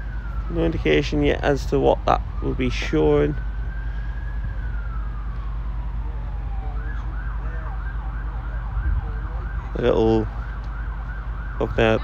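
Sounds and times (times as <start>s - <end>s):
siren wailing and yelping: 0.0s - 12.0s.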